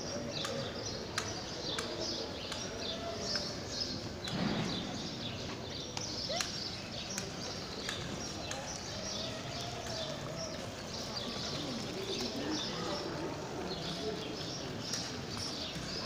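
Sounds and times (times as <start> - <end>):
murmur of distant voices: 0.0 - 16.0
small birds chirping: 0.0 - 16.0.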